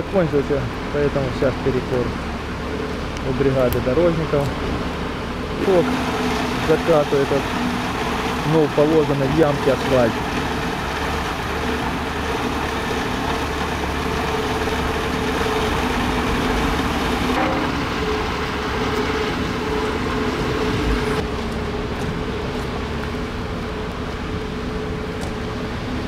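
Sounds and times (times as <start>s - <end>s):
road machinery engine droning: 0.0s - 26.0s.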